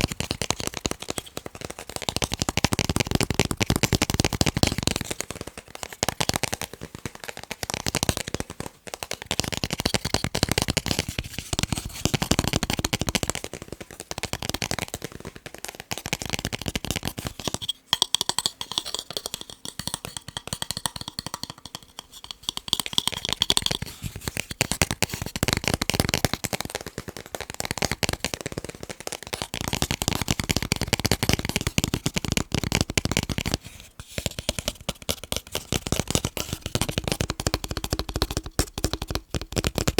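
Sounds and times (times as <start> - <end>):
rapid tapping on picture frames: 0.0 - 39.9.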